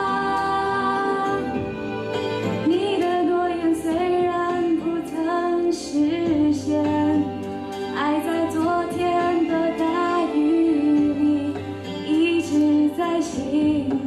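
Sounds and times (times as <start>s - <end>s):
musical accompaniment: 0.0s - 14.0s
woman singing into a microphone: 0.0s - 14.0s.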